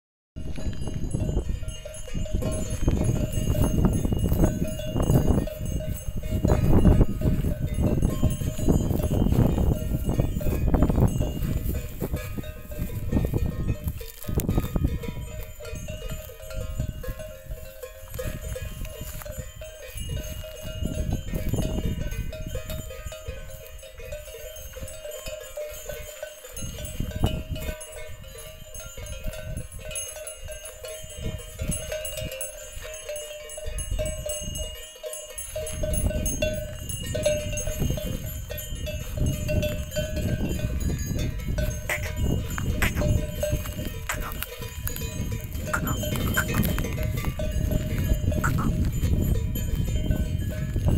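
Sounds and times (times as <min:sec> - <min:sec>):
cattle bells ringing: 0:00.4 - 0:50.9.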